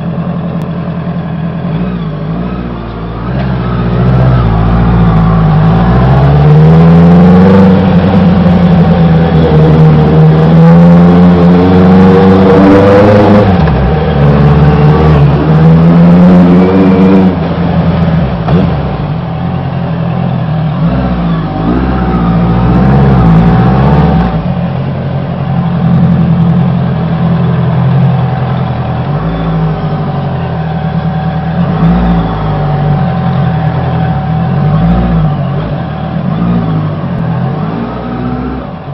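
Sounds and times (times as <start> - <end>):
motorcycle engine revving: 1.6 - 38.9.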